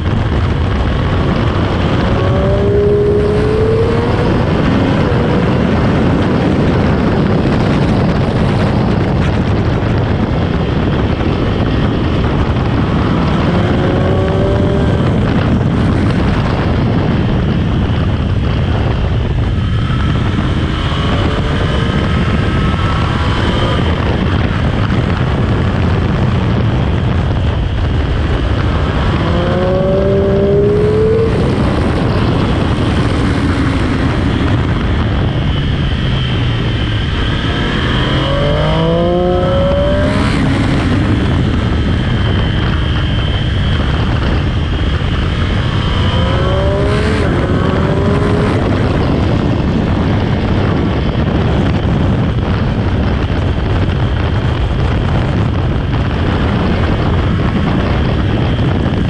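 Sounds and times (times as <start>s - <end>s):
loud rushing noise: 0.0s - 59.0s
motorcycle engine accelerating: 0.0s - 59.0s.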